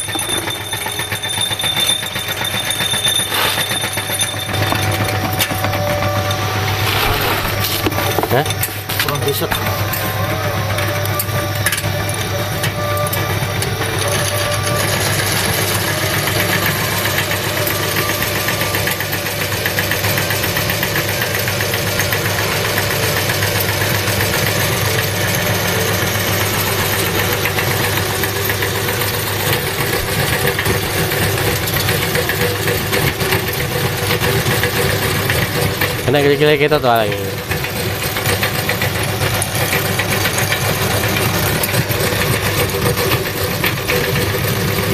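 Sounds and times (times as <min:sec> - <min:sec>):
meat grinder running: 0:00.0 - 0:44.9.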